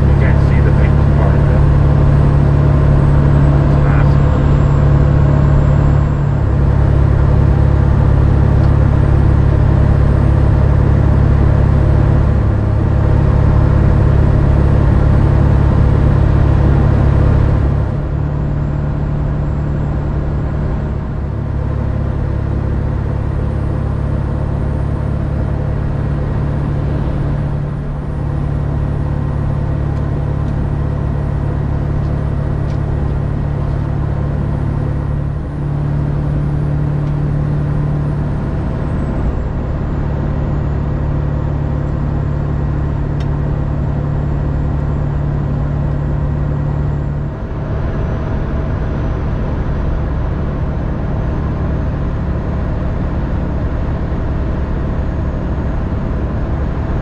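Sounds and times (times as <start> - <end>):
diesel truck engine and tyres drone: 0.0 - 57.0.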